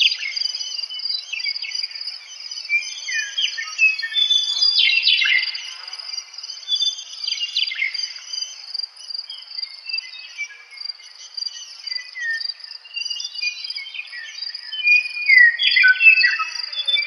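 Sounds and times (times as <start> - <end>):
meadowlark singing: 0.0 - 17.0.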